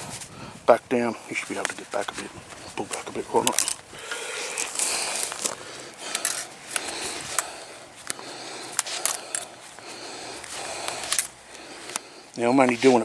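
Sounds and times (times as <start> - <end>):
fence wire clicking and scraping: 1.3 - 13.0.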